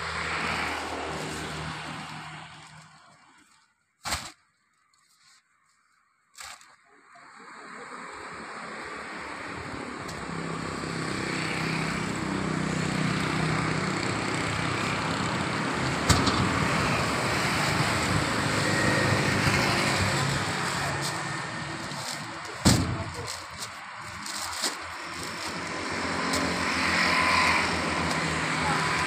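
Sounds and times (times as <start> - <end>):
vehicle passing by: 0.0 - 3.0, 7.8 - 29.0.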